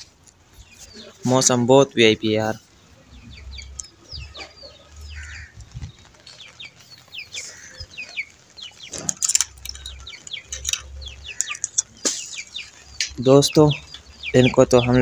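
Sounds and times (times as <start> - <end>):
chickens clucking: 0.0 - 15.0
high chirps: 1.9 - 15.0.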